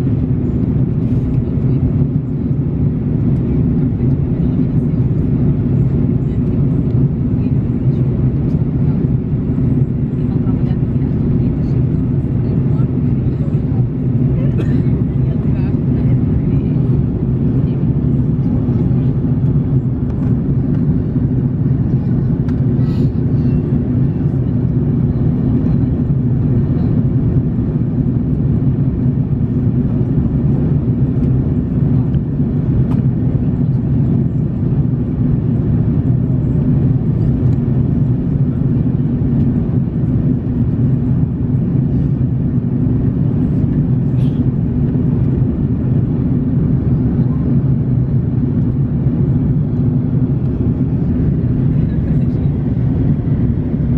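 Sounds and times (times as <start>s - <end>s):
airliner cabin drone: 0.0s - 53.9s.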